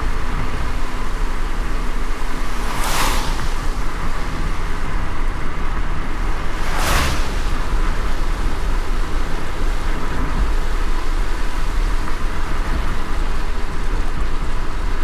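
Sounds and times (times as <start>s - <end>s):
rain falling: 0.0s - 14.9s.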